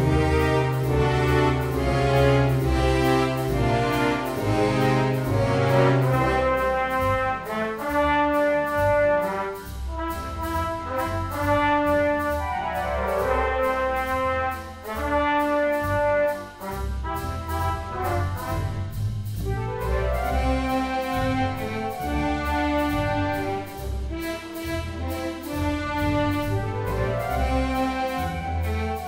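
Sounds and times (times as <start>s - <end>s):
brass music over steady beat: 0.0s - 29.0s.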